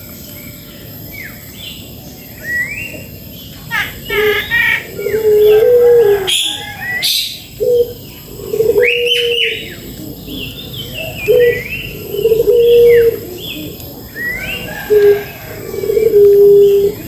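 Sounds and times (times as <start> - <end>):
songbird chirping: 0.0 - 17.0
dove cooing: 2.4 - 17.0.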